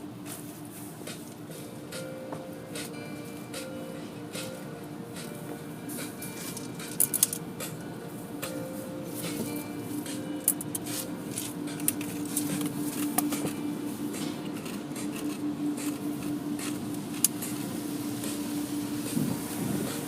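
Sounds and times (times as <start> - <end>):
car wash machinery hum: 0.0 - 20.0.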